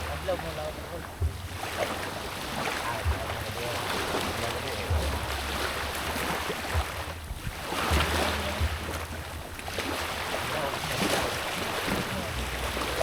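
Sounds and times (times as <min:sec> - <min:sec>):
sea waves washing: 0:00.0 - 0:13.0
wind buffeting microphone: 0:00.0 - 0:13.0.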